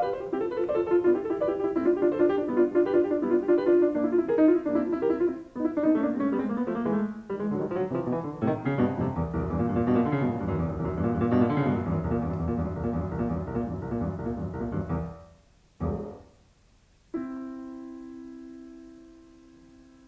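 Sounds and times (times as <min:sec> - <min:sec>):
solo piano: 0:00.0 - 0:16.5, 0:17.1 - 0:20.0.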